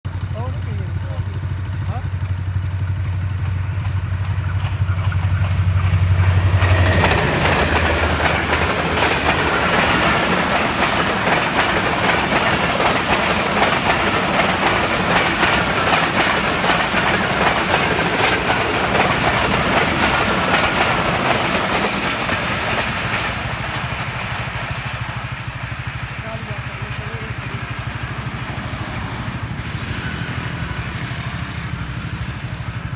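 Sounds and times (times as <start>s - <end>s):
diesel locomotive engine hum: 0.0s - 32.9s
train wheel clatter: 0.1s - 32.9s
wheels squealing on rails: 3.8s - 24.4s, 26.8s - 32.9s.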